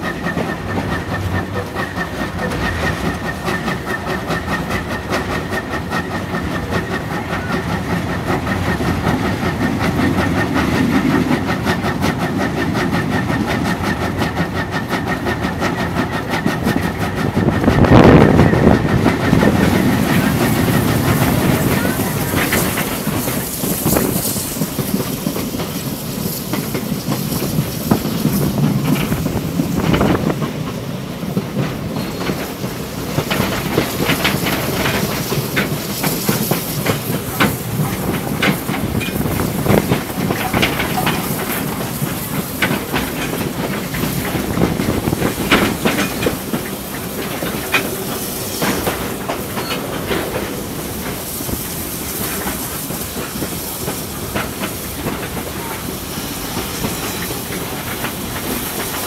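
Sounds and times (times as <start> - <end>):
steam hissing: 0.0 - 59.0
train rolling rumble: 0.0 - 59.0
train wheels clattering over rail joints: 0.0 - 59.0.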